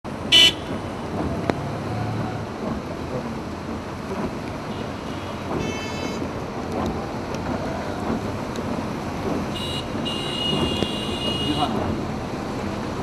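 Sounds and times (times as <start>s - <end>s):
flood torrent roaring: 0.1s - 13.0s.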